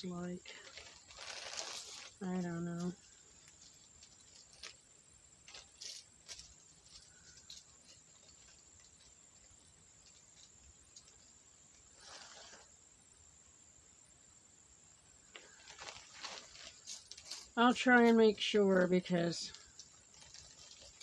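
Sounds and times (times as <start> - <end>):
soft rustle: 0.0 - 12.8, 15.2 - 21.0.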